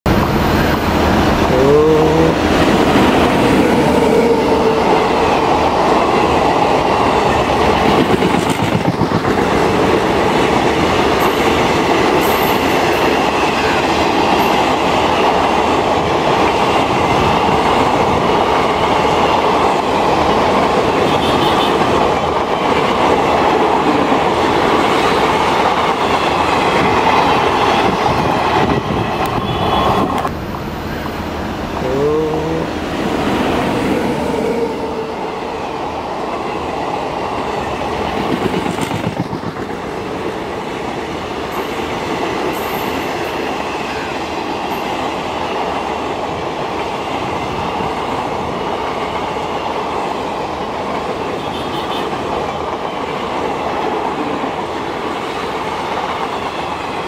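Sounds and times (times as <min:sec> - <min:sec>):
train wheels on rail: 0:00.1 - 0:57.0
clickety-clack over rail joints: 0:05.0 - 0:31.8, 0:36.2 - 0:57.0.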